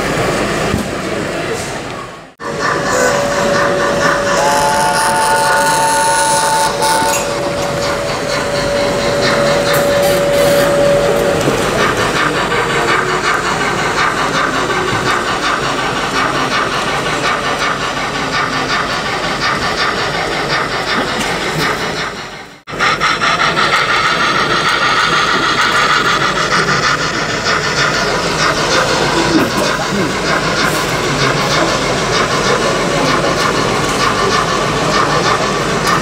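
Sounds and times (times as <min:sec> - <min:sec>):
model train hissing rush: 0:00.0 - 0:36.0.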